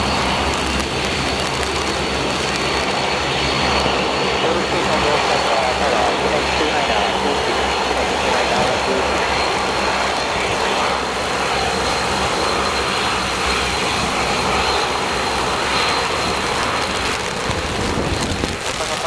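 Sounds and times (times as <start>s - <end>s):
turboprop engines rushing: 0.0s - 19.0s.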